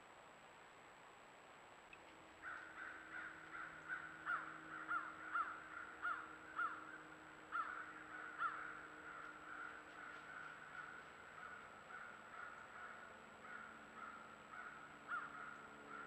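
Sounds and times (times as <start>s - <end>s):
birds calling: 2.0s - 16.0s.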